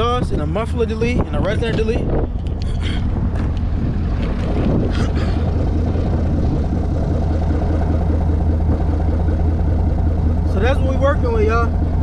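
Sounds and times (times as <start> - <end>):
car engine idling: 0.0 - 12.0
deep exhaust note: 0.0 - 12.0.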